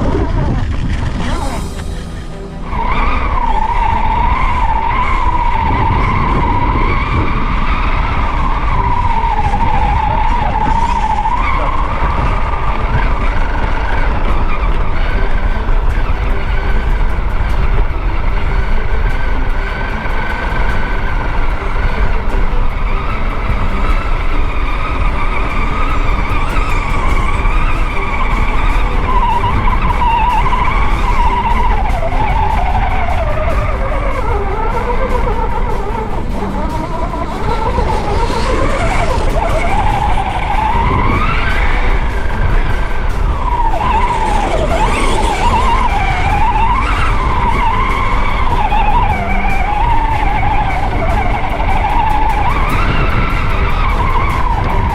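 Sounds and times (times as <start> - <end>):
electric motor whining: 0.0 - 54.9
low rumble: 0.0 - 54.9.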